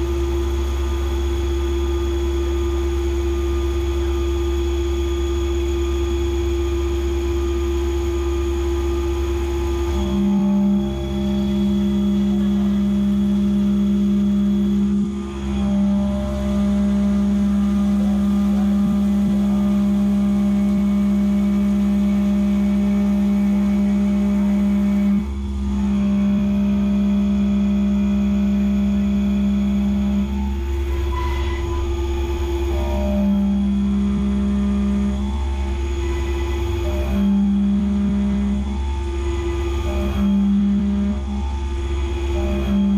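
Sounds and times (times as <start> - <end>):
low machine hum: 0.0 - 42.9
milling machine cutting tone: 0.0 - 42.9.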